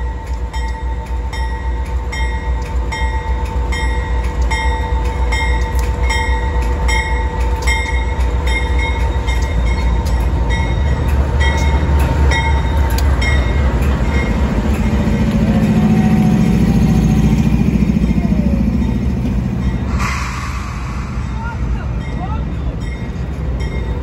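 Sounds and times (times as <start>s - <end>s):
diesel locomotives rumbling: 0.0s - 24.0s.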